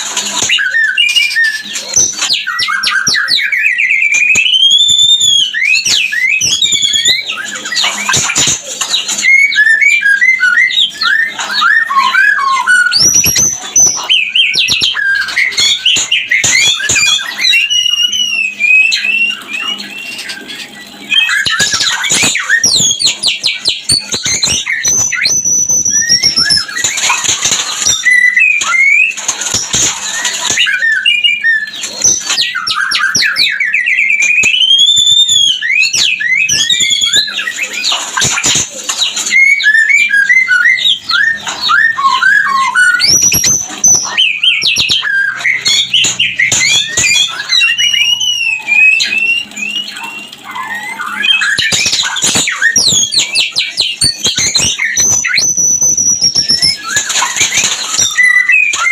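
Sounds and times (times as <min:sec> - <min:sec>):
bird singing whistles and trills: 0:00.1 - 0:58.9.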